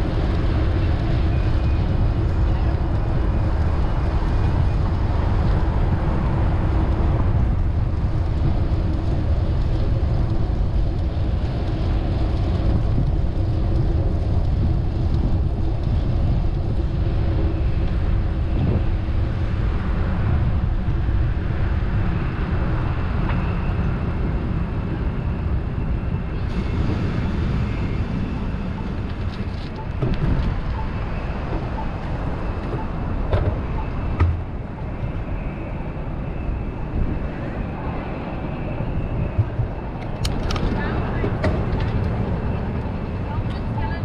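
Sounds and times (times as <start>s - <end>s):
city traffic: 0.0s - 44.0s
wind on microphone: 0.0s - 44.0s.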